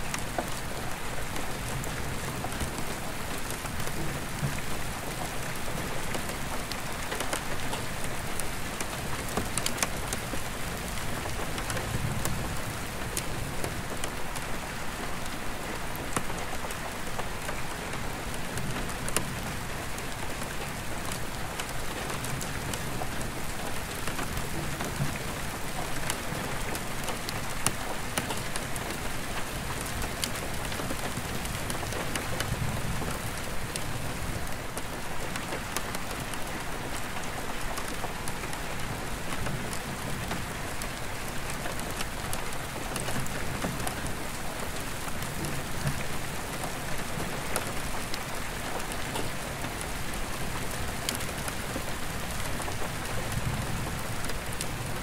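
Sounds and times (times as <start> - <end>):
rain on skylight glass: 0.0 - 55.0.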